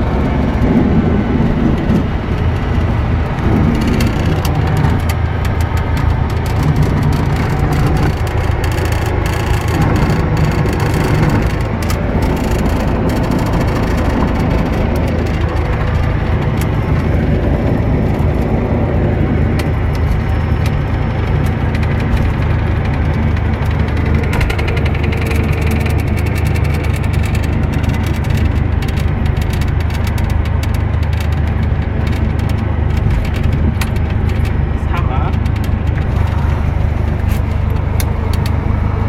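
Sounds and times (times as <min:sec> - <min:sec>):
aircraft propeller engine drone: 0:00.0 - 0:39.0.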